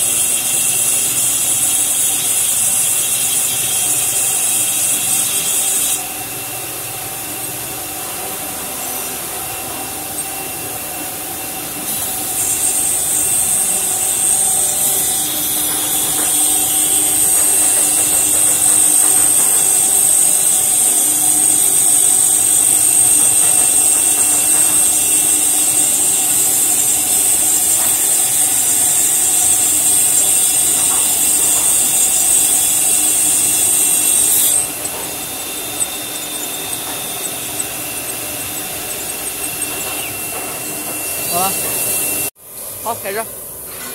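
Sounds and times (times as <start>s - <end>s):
saw blade whining through metal: 0.0s - 42.3s.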